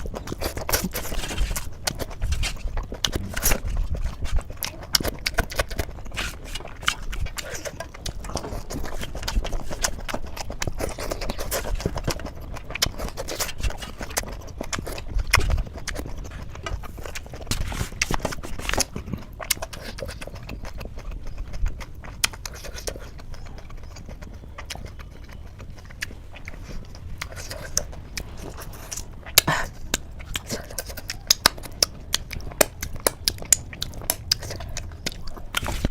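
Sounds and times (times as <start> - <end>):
chewing and lip-smacking: 0.0 - 35.9.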